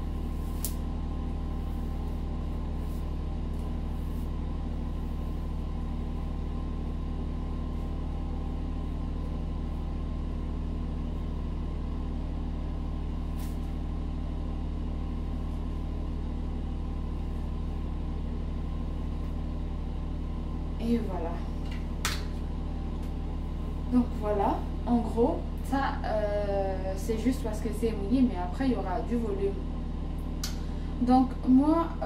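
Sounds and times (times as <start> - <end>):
machinery humming: 0.0 - 32.0.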